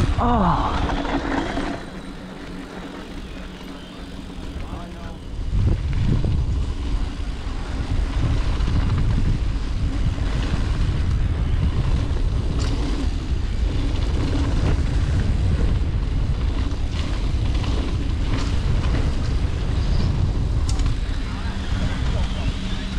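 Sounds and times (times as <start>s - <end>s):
tyres rolling on dirt: 0.0s - 22.9s
wind roaring over microphone: 0.0s - 22.9s.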